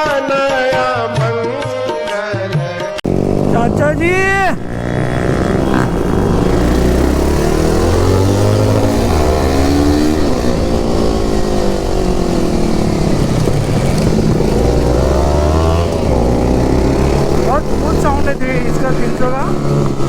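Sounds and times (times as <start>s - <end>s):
motorcycle engine accelerating: 3.0s - 20.0s.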